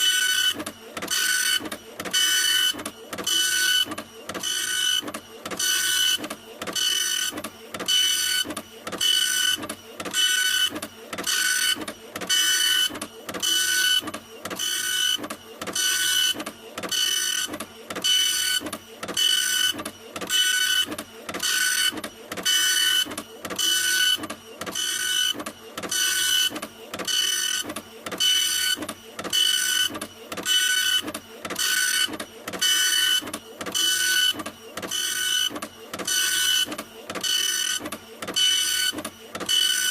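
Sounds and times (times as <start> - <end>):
printer carriage motor whine: 0.0 - 39.9.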